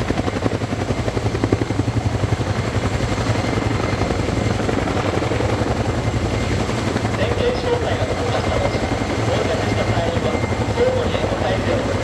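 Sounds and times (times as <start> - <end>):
helicopter engine hum: 0.0 - 12.0
helicopter rotor chopping: 0.0 - 12.0.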